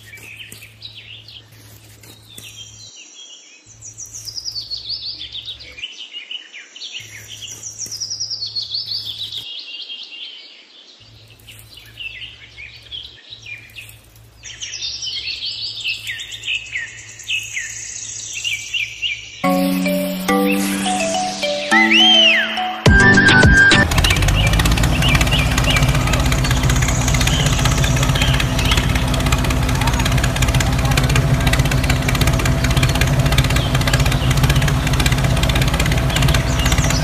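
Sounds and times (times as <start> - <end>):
songbirds chirping and singing: 0.0 - 37.0.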